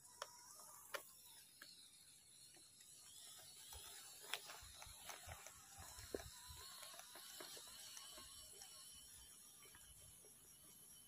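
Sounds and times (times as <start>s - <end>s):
electric motor whirring and ticking: 0.0s - 11.0s.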